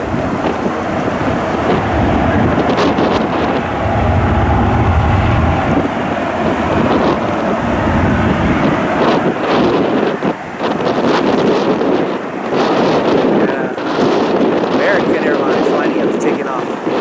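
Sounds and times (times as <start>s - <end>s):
jet engine rushing: 0.0s - 16.5s
wind buffeting microphone: 0.0s - 17.0s.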